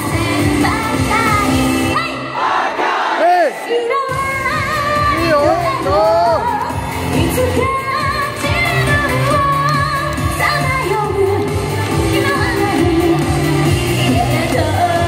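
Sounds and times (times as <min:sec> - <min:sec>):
pop backing track: 0:00.0 - 0:02.0, 0:04.1 - 0:15.0
woman singing into microphone: 0:00.0 - 0:02.3, 0:03.6 - 0:15.0.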